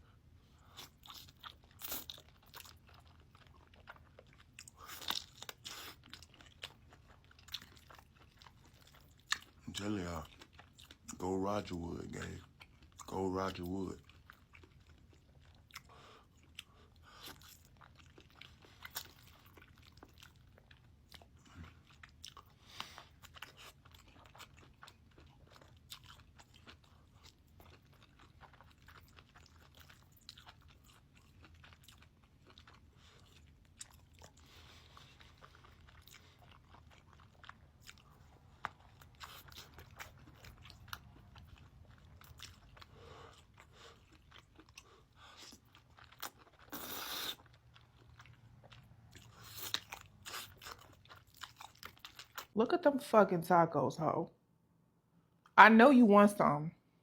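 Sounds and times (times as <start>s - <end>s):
chewing and biting: 0.6s - 11.2s, 12.1s - 52.6s
food crunching: 0.6s - 52.6s.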